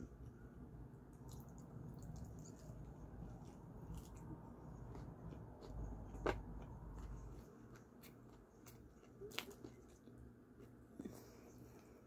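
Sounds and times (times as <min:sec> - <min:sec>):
person chewing food: 0:01.1 - 0:12.0.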